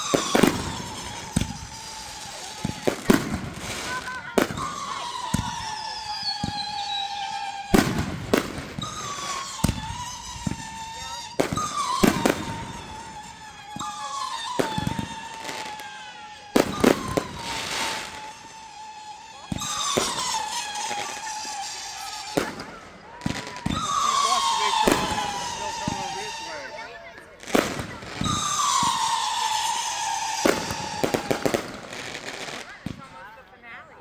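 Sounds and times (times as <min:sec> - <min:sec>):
firework bangs: 0:00.0 - 0:33.5
whistling fireworks screeching: 0:00.0 - 0:34.0.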